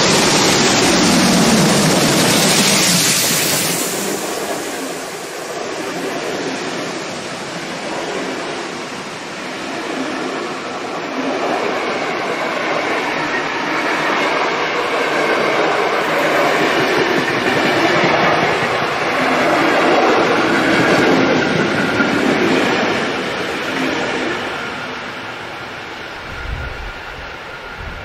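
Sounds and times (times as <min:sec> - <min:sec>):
train wheels on rails: 0:00.0 - 0:28.0.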